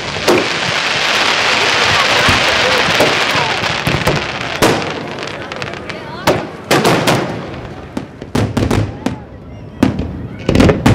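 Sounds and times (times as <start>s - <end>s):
firework bangs: 0.0s - 10.9s.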